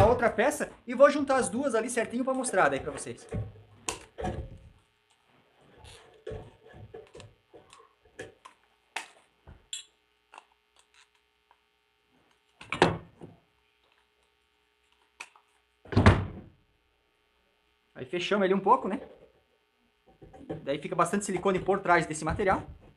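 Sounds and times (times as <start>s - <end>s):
faint electrical hum: 0.0s - 22.9s.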